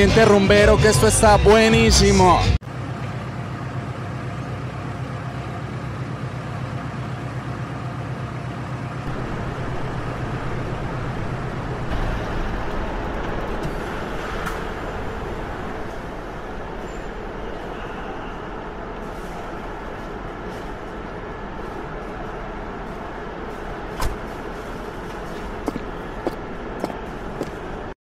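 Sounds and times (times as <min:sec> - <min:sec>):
car engine running: 0:02.6 - 0:27.9.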